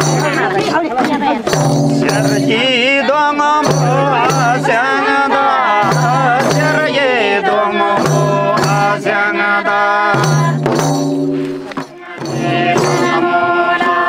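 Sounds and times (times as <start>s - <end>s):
person singing: 0.0s - 10.8s, 11.9s - 14.0s
frame drums beating: 0.0s - 14.0s.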